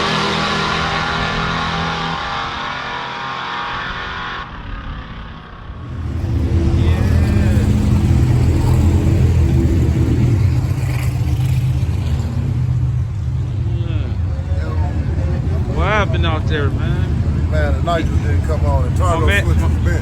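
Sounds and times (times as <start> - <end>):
loud low engine rumble: 0.0 - 20.0
racing car engine at high revs: 0.0 - 20.0.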